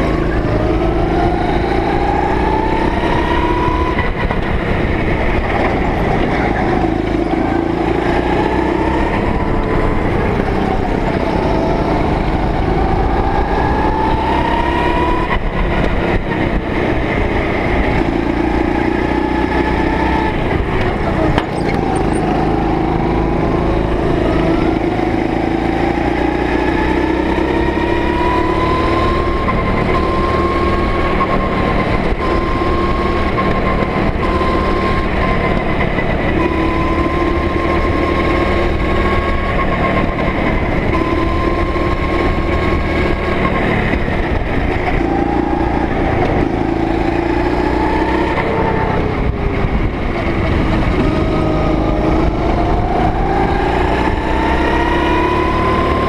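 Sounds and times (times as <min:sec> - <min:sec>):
chassis and track rumble: 0:00.0 - 0:56.0
go-kart engine revving: 0:00.0 - 0:56.0.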